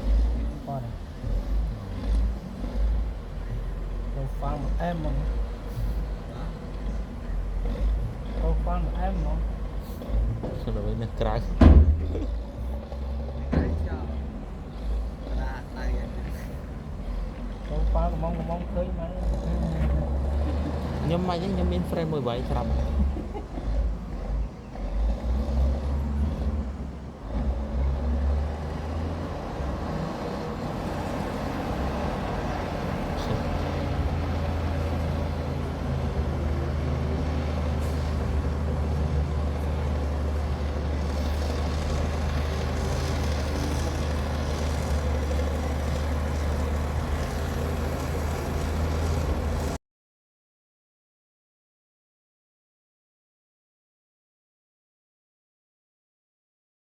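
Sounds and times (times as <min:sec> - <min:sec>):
heavy diesel engine rumbling: 0:00.0 - 0:49.8.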